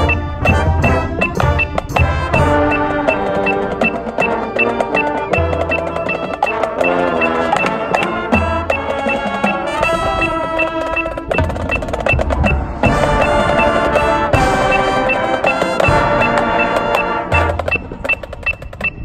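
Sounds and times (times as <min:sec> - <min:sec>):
marching band brass chords: 0:00.0 - 0:18.9
drums: 0:00.0 - 0:19.0.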